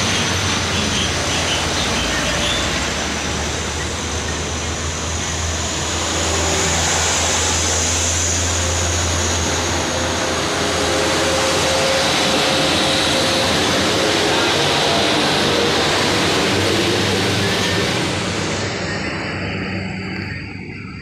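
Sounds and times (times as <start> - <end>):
road noise: 0.0 - 21.0
truck engine droning: 0.0 - 21.0.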